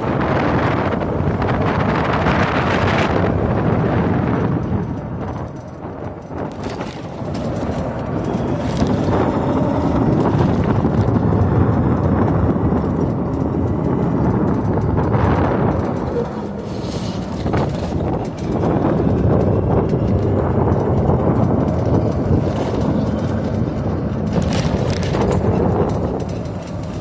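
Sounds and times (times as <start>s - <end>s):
electric atv rumbling: 0.0s - 27.0s.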